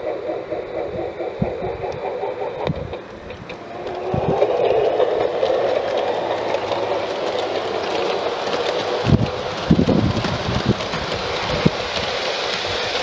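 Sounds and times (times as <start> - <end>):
model train running hum: 0.0 - 13.0.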